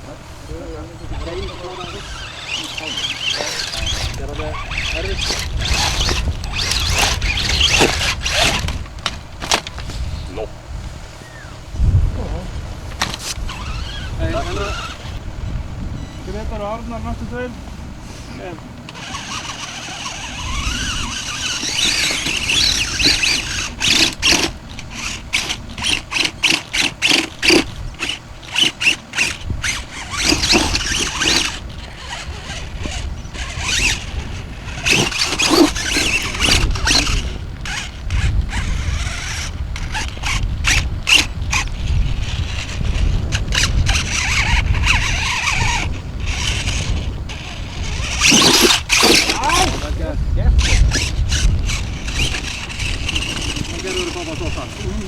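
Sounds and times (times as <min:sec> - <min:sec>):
model car drivetrain whining: 0:00.0 - 0:55.0.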